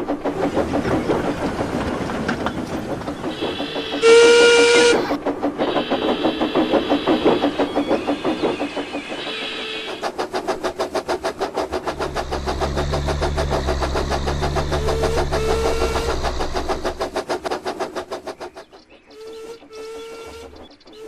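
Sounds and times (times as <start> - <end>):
engine chugging: 0.0 - 21.0.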